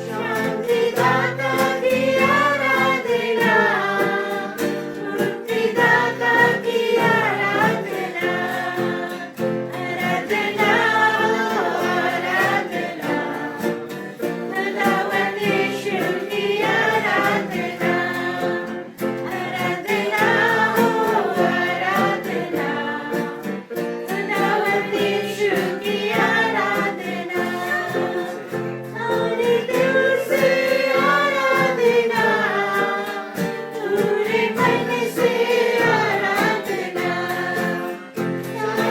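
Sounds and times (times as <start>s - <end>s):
group of voices singing: 0.0s - 38.9s
instrumental accompaniment: 0.0s - 38.9s.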